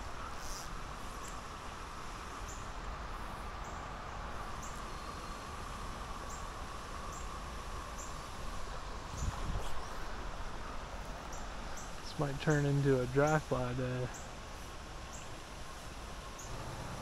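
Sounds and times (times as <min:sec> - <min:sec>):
river water running over shallows: 0:00.0 - 0:17.0.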